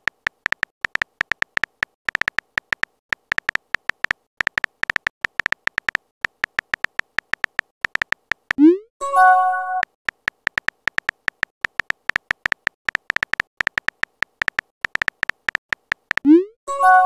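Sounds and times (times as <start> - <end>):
keyboard typing clicks: 0.0 - 16.5.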